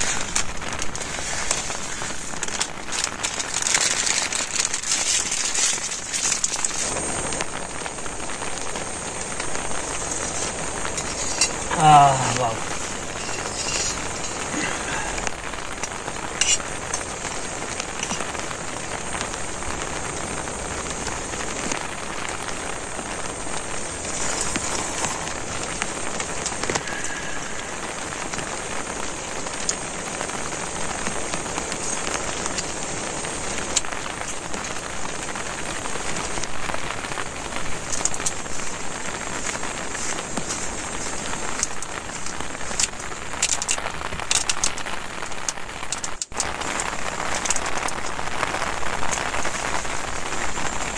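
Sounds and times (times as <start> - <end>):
heavy rain on a tent: 0.0 - 50.9.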